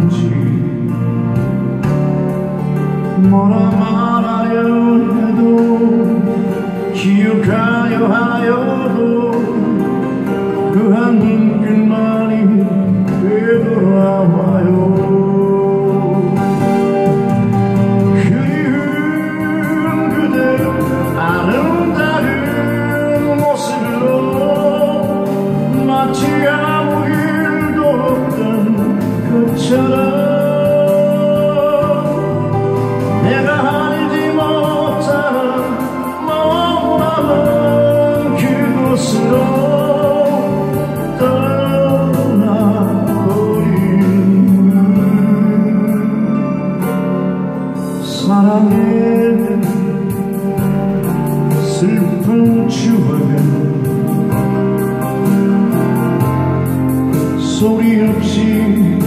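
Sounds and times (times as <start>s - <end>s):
acoustic guitar strumming: 0.0s - 59.0s
man singing a slow ballad: 0.0s - 59.0s
musical accompaniment: 0.0s - 59.0s.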